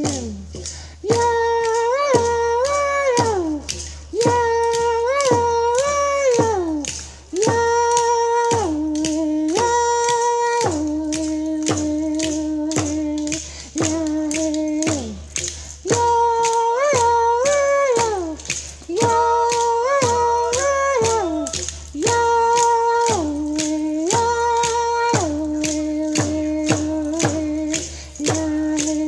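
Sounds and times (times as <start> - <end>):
person chanting: 0.0 - 29.0
steady clacking beat: 0.0 - 29.0.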